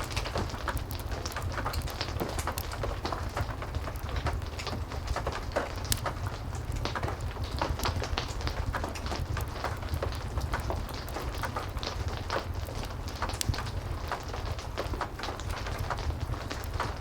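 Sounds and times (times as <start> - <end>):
heavy rain: 0.0 - 17.0
wood fire crackling: 0.0 - 17.0.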